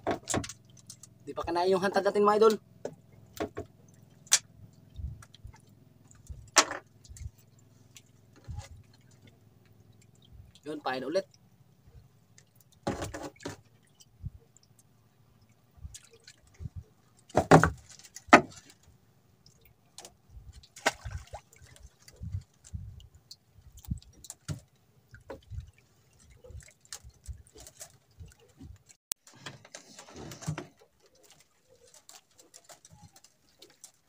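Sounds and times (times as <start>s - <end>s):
water sound: 0.0s - 29.0s.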